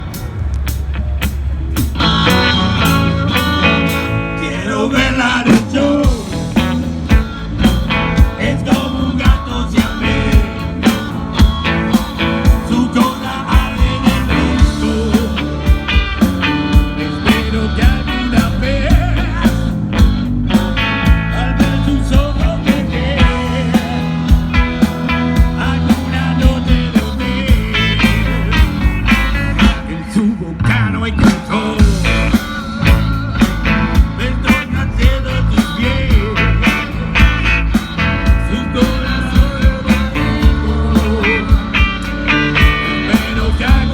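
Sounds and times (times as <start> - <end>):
rock band instrumental: 0.0 - 43.9
drum beat: 5.5 - 29.8, 31.8 - 43.9.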